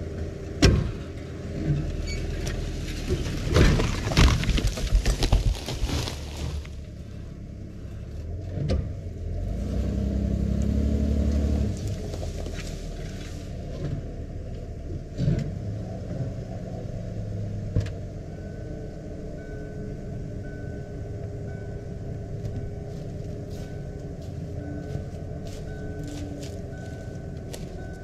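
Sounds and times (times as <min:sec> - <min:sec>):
pickup truck engine running: 0:00.0 - 0:28.0.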